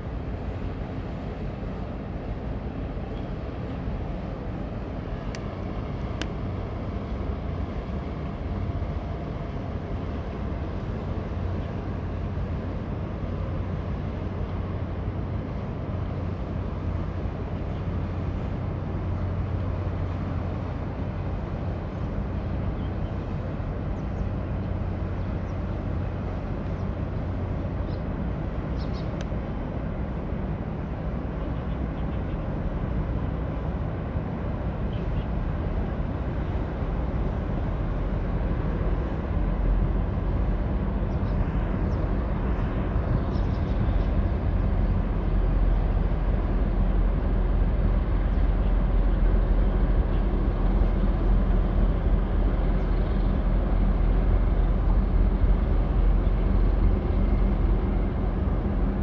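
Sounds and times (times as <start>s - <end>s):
ship engine low rumble: 0.0s - 59.0s.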